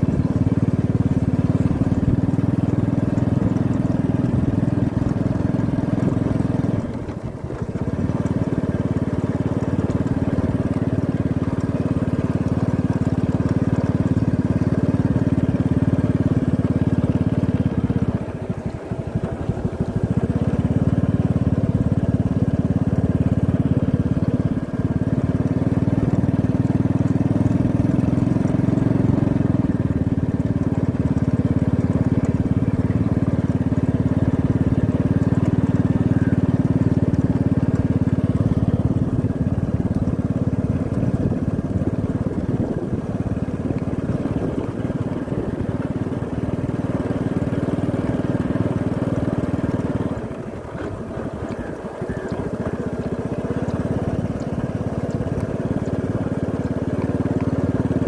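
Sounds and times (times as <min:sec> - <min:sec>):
small motorbike engine running: 0:00.0 - 0:58.0.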